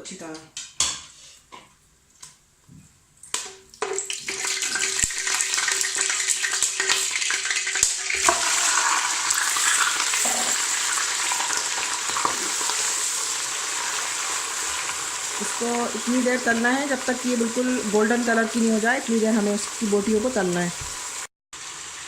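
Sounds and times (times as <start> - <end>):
chicken frying in oil: 3.4 - 22.0.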